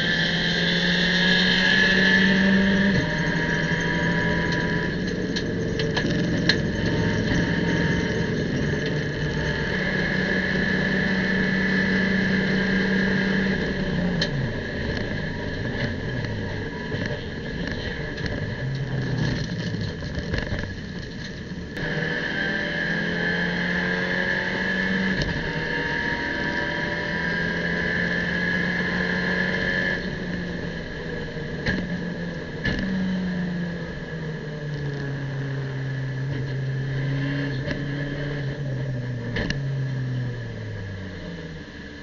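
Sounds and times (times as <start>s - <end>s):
car engine at high revs: 0.0s - 42.0s.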